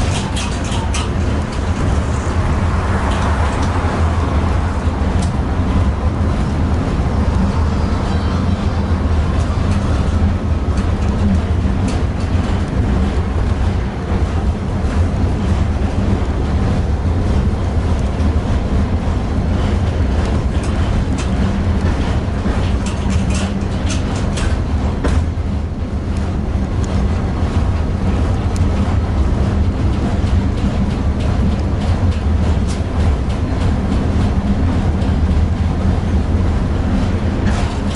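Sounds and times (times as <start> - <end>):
tram rumbling along track: 0.0 - 37.9
wheels clicking on rails: 0.0 - 37.9.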